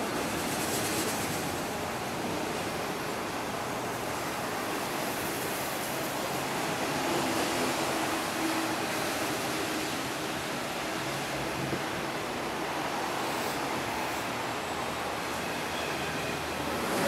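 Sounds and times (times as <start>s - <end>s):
train rushing past: 0.0s - 17.0s.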